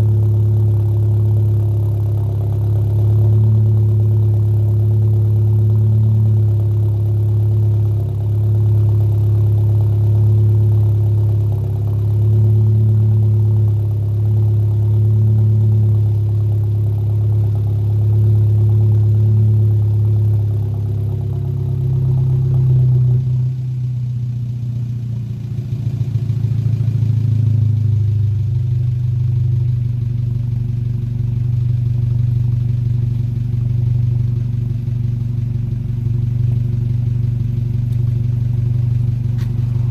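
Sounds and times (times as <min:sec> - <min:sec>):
car exhaust deep drone: 0:00.0 - 0:39.9.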